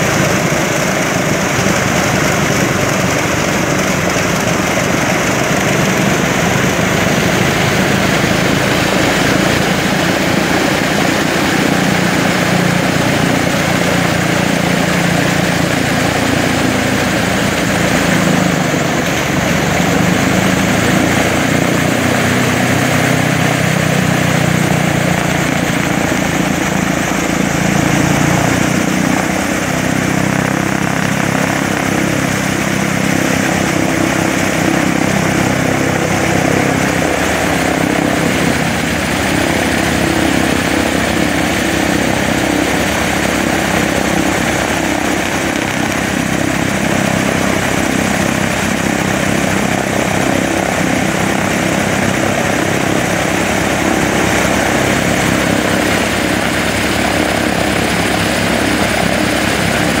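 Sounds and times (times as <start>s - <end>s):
propeller aircraft engines droning: 0.0s - 60.0s.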